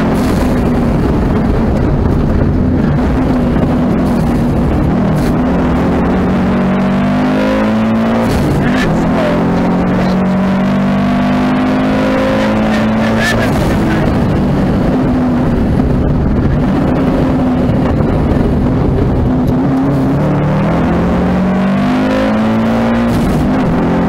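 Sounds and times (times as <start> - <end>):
rally car engine revving: 0.0 - 24.0
road noise: 0.0 - 24.0.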